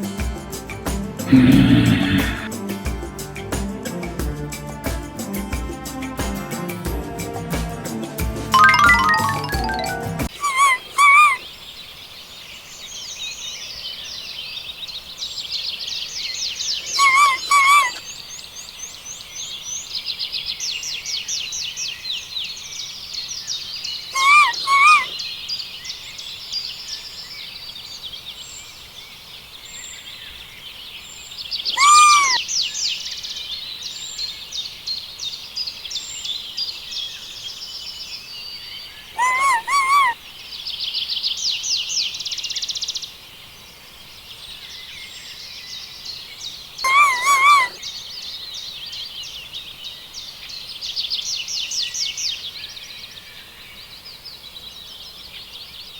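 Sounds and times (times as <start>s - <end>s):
small birds twittering: 1.2s - 2.5s, 8.6s - 55.9s.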